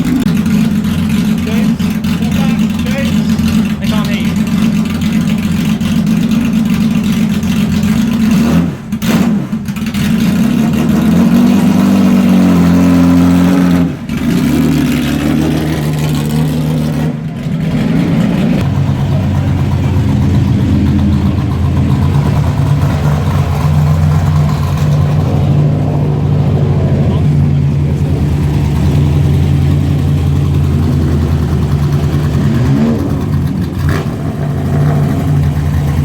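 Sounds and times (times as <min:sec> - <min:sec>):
racing car engine revving: 0:00.0 - 0:36.0.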